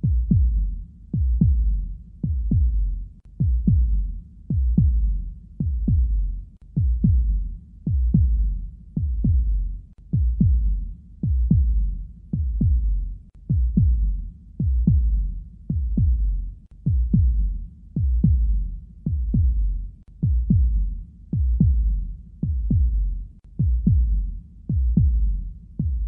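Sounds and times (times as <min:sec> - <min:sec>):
heartbeat thumps: 0:00.0 - 0:26.0.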